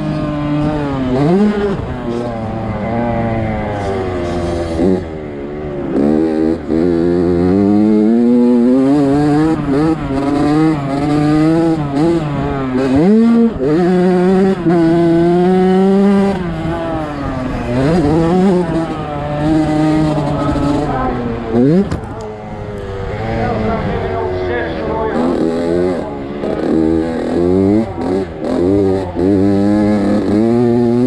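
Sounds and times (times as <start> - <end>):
racing engine under hard throttle: 0.0 - 31.0.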